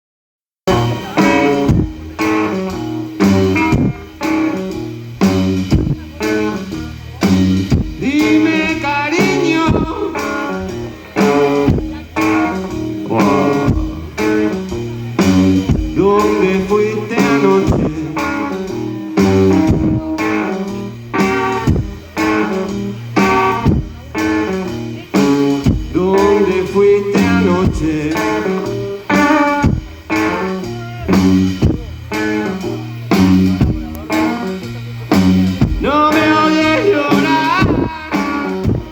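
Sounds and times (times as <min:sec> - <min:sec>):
live blues band playing: 0:00.7 - 0:38.9.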